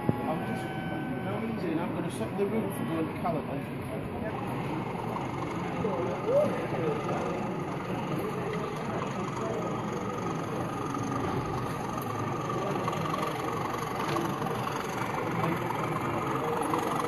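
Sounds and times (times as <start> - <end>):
crowd of people talking: 0.0 - 17.0.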